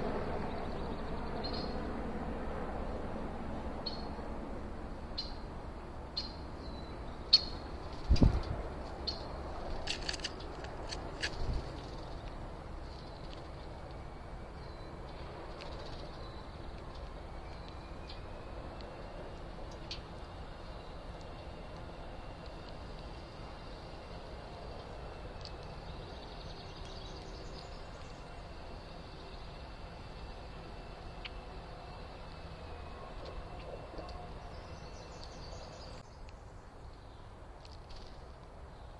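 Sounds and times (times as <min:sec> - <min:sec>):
outdoor background hiss: 0:00.0 - 0:38.9.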